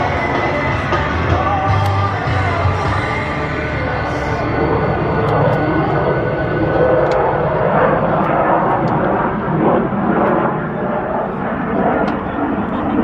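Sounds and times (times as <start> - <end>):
fighter jet engine rumble: 0.0 - 13.0.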